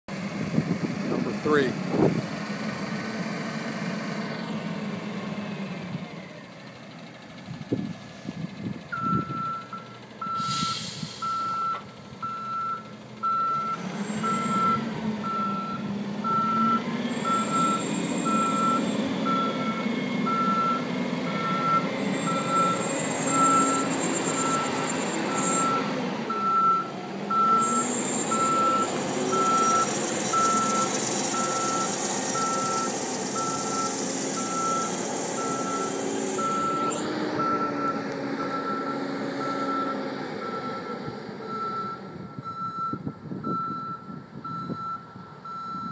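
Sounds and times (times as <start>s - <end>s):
truck engine running: 0.1s - 45.9s
reverse alarm beeping: 9.0s - 45.9s.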